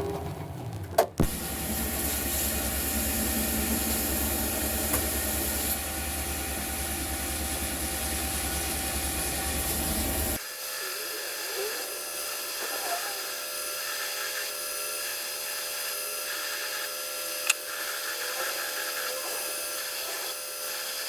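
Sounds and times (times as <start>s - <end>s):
workshop tool motor humming: 1.2s - 21.0s.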